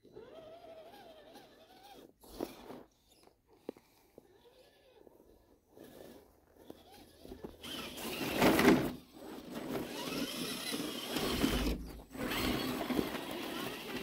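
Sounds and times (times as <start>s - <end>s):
toy car motor and gears whirring: 0.0s - 14.0s.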